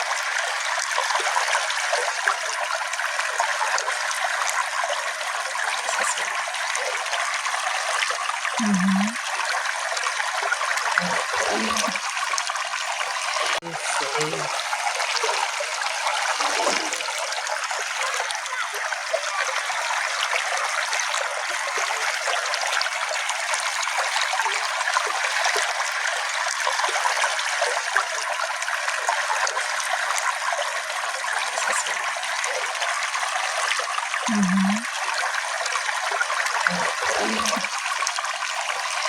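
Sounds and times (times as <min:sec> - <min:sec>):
stream trickling over stones: 0:00.0 - 0:39.0.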